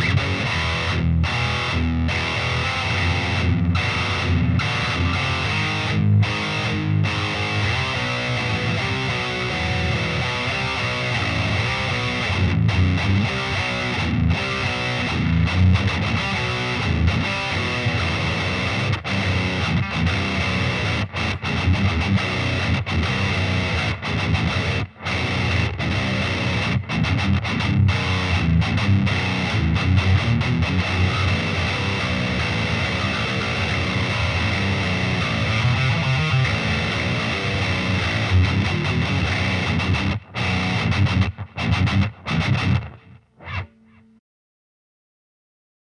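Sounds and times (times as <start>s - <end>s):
distorted electric guitar riff: 0.0s - 44.2s.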